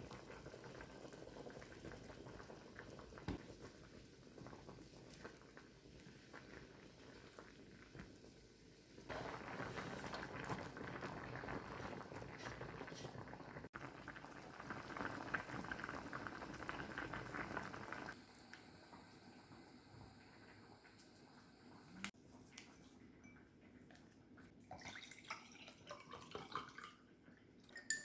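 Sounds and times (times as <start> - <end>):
food bubbling and crackling: 0.0 - 28.0.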